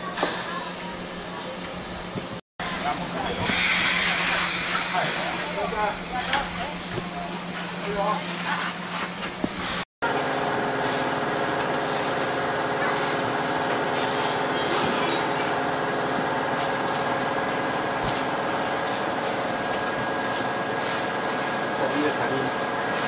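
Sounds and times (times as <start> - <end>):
machinery hum: 0.0 - 23.0.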